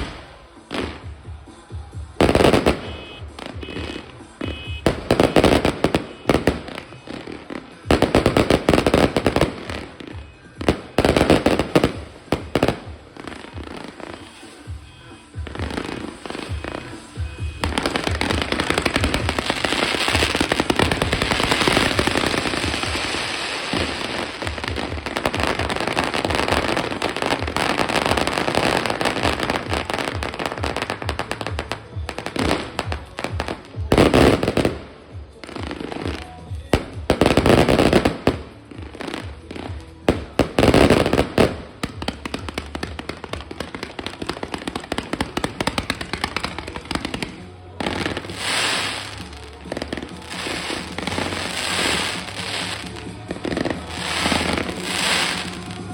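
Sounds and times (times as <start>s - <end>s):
fireworks crackling: 0.0s - 55.9s
loud firework bursts: 2.2s - 55.9s.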